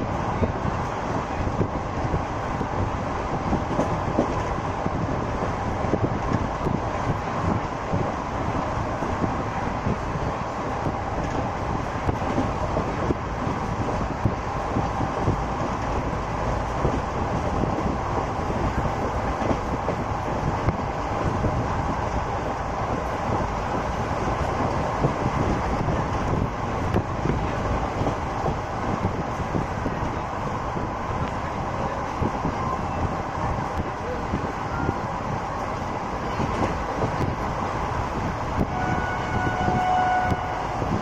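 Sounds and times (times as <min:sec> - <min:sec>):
train rumbling along track: 0:00.0 - 0:41.0.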